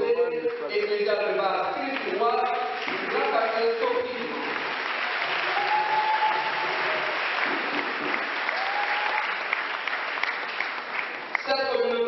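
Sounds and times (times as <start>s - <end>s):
congregation applauding: 0.7s - 12.0s.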